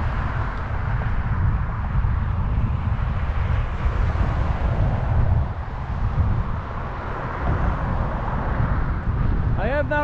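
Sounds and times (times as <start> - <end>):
road and traffic noise: 0.0 - 10.0
wind buffeting microphone: 0.0 - 10.0.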